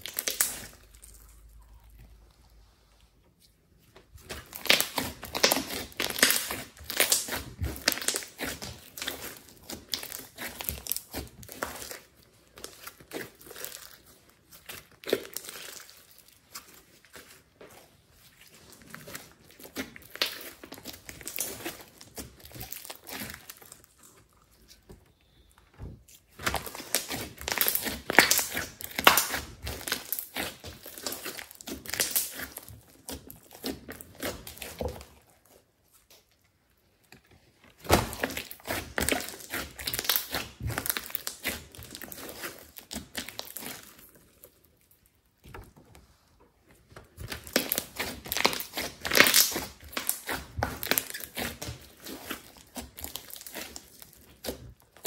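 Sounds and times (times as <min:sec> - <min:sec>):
hands kneading sticky slime: 0:00.0 - 0:55.0.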